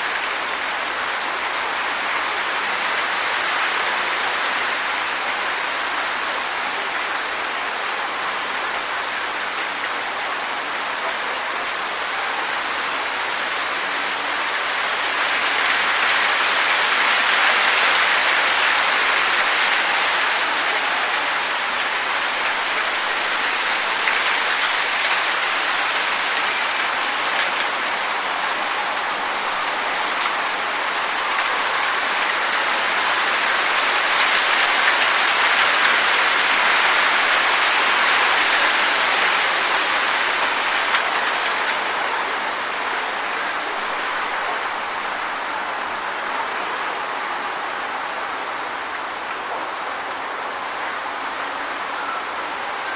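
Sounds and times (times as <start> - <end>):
wind rustling tree leaves: 0.0 - 52.9.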